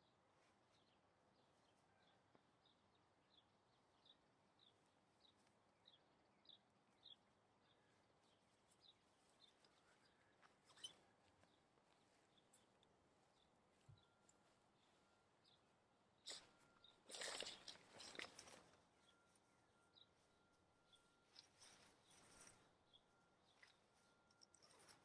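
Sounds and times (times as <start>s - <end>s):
small bird chirping: 3.3s - 25.0s.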